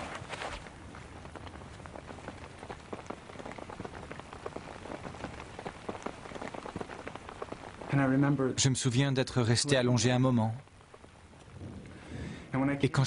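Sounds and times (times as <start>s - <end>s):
light rain on leaves: 0.0s - 13.0s.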